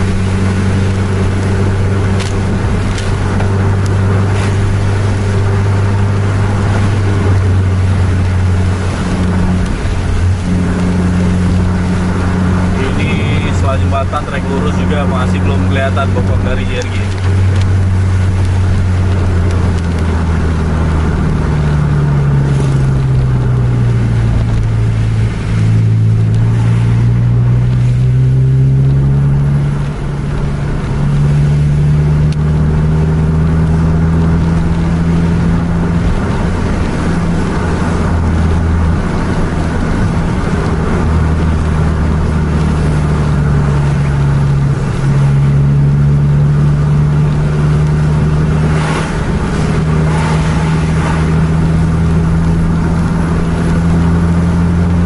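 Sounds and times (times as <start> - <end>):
car engine running: 0.0 - 55.0
tyre noise on wet road: 0.0 - 55.0.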